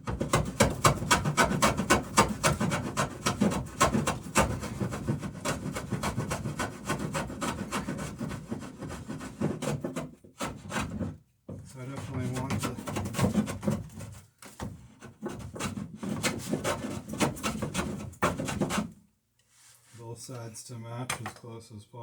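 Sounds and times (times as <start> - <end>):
hand tool rubbing on wood: 0.3 - 11.0, 11.8 - 18.9.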